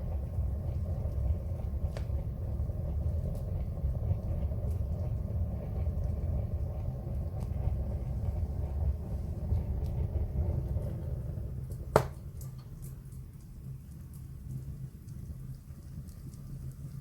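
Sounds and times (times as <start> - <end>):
fire crackling: 0.0 - 17.0
fire rumbling in fireplace: 0.0 - 17.0.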